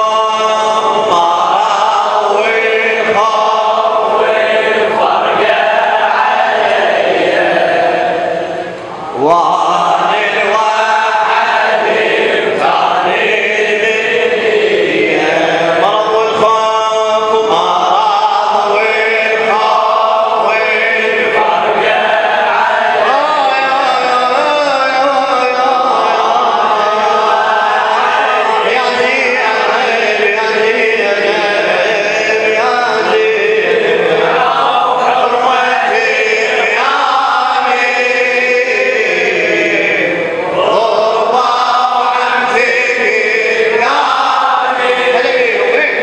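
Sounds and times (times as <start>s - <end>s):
male voices chanting: 0.0s - 46.0s.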